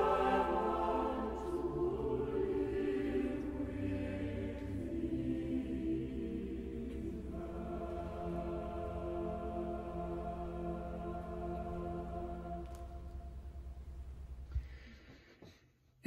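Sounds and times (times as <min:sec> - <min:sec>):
choir singing a carol: 0:00.0 - 0:14.0.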